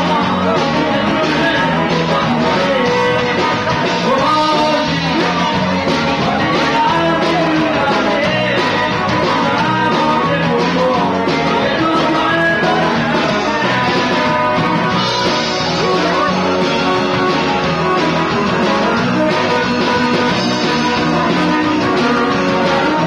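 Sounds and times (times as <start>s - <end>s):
drums: 0.0s - 23.0s
electric guitar: 0.0s - 23.0s
man singing: 0.0s - 23.0s.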